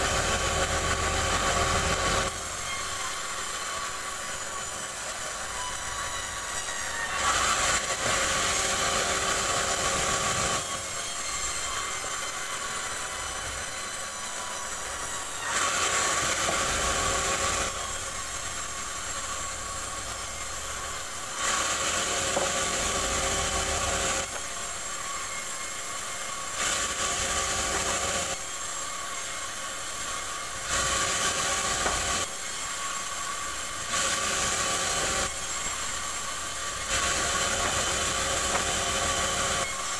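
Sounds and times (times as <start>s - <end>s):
band saw running: 0.0s - 39.9s
saw cutting wood rasp: 0.0s - 39.9s.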